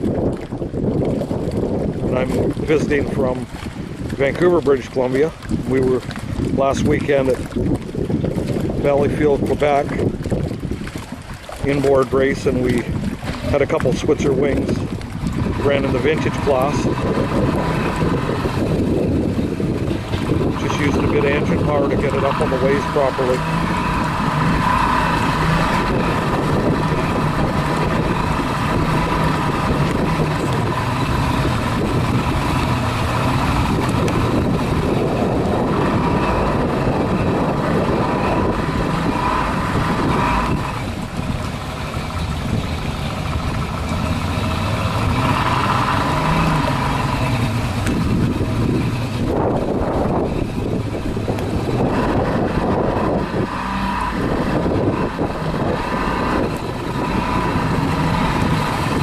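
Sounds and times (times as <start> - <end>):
outboard boat engines running: 0.0 - 59.0.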